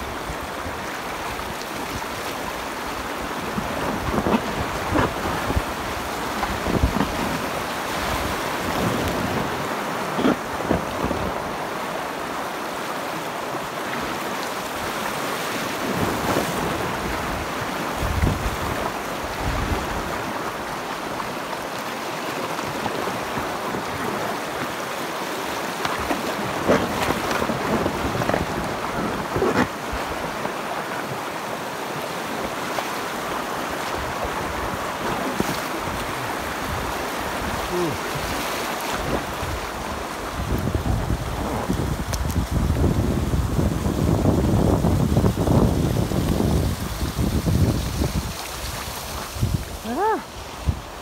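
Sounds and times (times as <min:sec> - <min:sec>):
loud water splashes: 0:00.0 - 0:51.0
river rapids rushing: 0:00.0 - 0:51.0.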